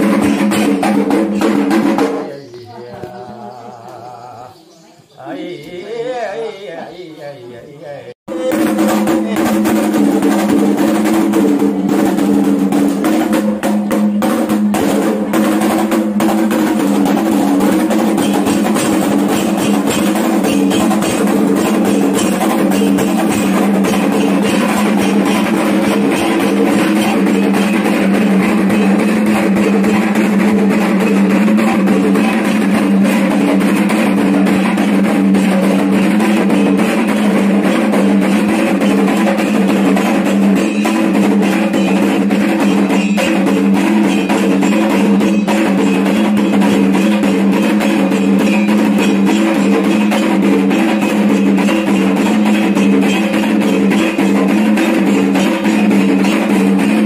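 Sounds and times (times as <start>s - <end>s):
drums beaten in fast rhythm: 0.0s - 3.9s, 8.0s - 57.0s.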